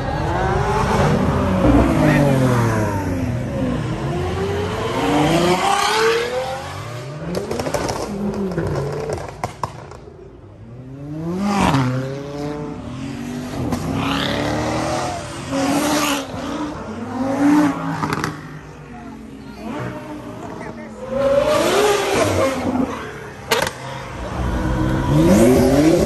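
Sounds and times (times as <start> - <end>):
supercars revving and accelerating: 0.0 - 26.0.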